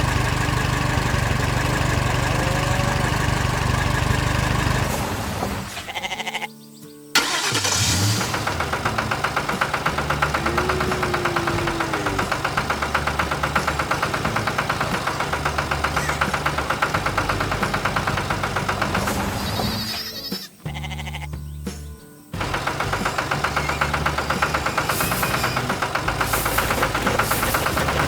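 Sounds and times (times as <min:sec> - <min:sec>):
diesel engine knocking clatter: 0:00.0 - 0:05.8, 0:07.2 - 0:19.9, 0:22.4 - 0:28.0.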